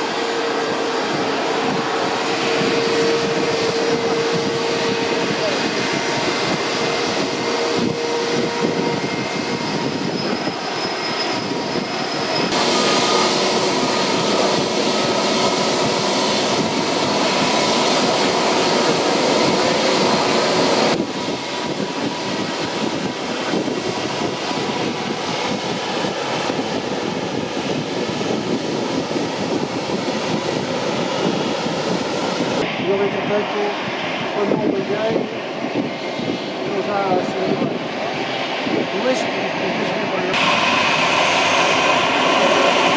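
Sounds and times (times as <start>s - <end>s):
jet engines rushing: 0.0s - 42.9s
turbine whine: 0.0s - 42.9s.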